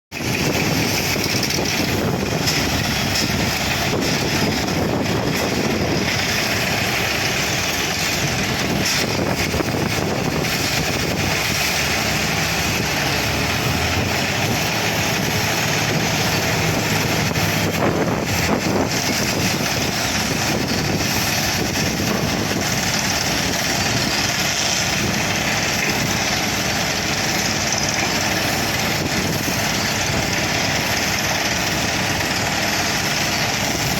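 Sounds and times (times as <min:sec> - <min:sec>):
air compressor running: 0:00.1 - 0:33.9
drill rig running: 0:00.1 - 0:33.9.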